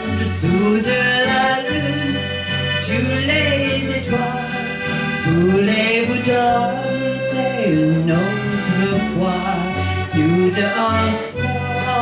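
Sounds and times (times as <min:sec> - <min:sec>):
accordion: 0:00.0 - 0:12.0
acoustic guitars: 0:00.0 - 0:12.0
person singing: 0:00.0 - 0:12.0.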